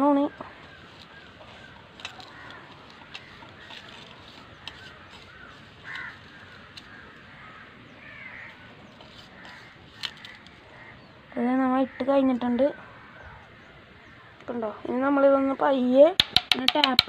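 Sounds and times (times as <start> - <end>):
crows cawing: 0.3 - 14.3.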